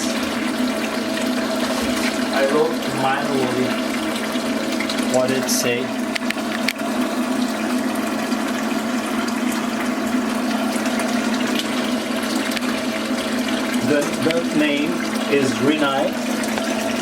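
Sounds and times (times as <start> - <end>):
liquid running out of hose: 0.0 - 17.0
small pump humming: 0.0 - 17.0.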